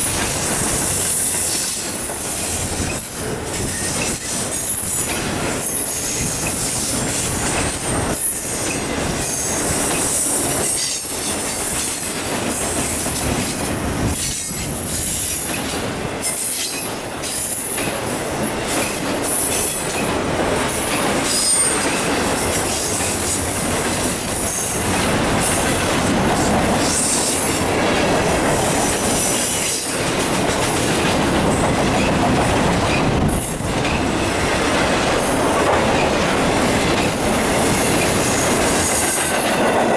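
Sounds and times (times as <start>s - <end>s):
rail-joint clicks: 0.0s - 39.9s.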